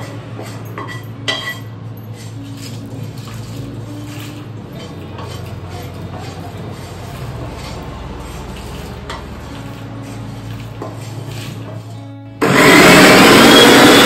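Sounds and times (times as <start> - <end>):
wooden spatula scraping pan: 0.0 - 12.6.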